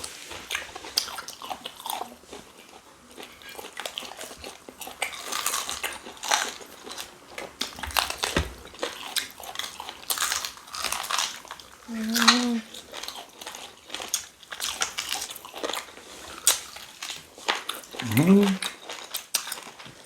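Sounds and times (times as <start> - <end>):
chewing and crunching: 0.0 - 20.0.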